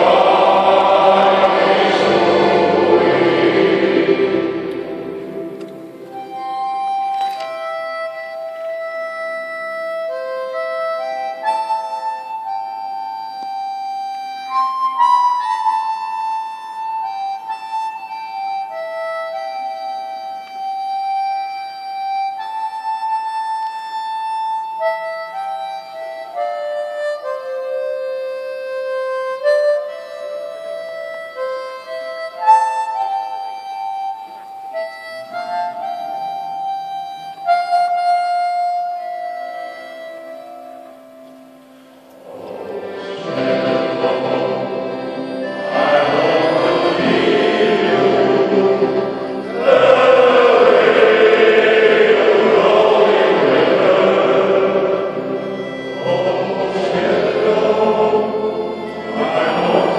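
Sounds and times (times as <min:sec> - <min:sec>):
accordion chords: 0:00.0 - 0:59.9
harmonica melody: 0:00.0 - 0:59.9.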